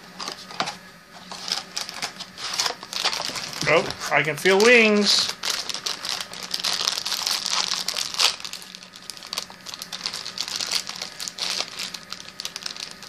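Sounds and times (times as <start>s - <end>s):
foil wrapper crinkling: 0.2s - 13.0s.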